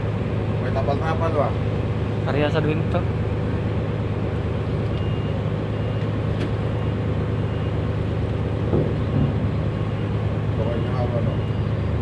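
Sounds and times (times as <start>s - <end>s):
marine diesel engine droning: 0.0s - 12.0s.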